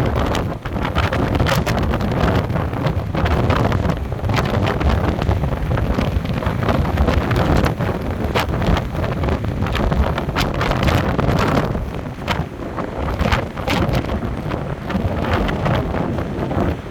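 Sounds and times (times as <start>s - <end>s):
storm wind on microphone: 0.0s - 16.9s
wind crackles on microphone: 0.0s - 16.9s.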